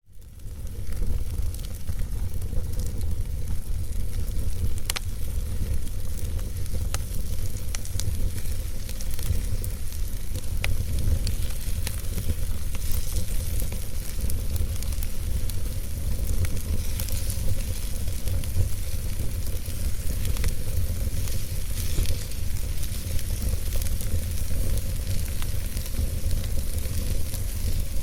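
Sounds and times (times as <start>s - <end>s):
low rumble and hiss of fire: 0.0s - 28.0s
campfire crackling and popping: 0.1s - 28.0s.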